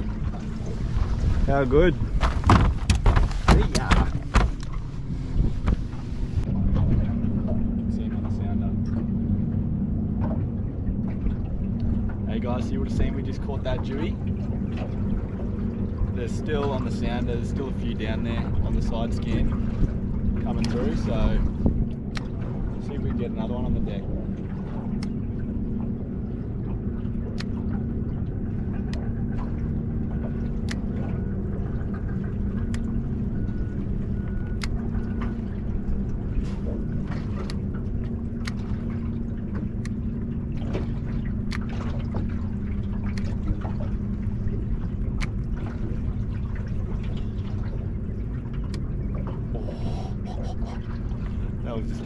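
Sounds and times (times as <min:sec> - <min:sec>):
steady low hum: 0:00.0 - 0:52.0
water slapping against boat hull: 0:00.0 - 0:52.0.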